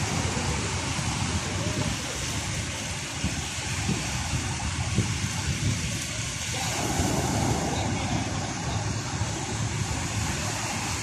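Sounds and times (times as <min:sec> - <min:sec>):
sea surf roaring: 0:00.0 - 0:11.0
wave breaking: 0:00.0 - 0:11.0.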